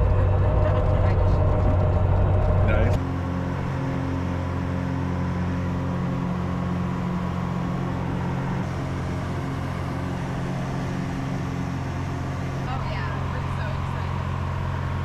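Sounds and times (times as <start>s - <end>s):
vehicle engine drone: 0.0s - 15.0s.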